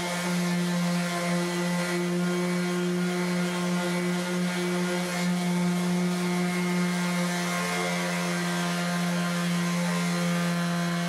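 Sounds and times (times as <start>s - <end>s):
orbital sander humming: 0.0s - 11.0s.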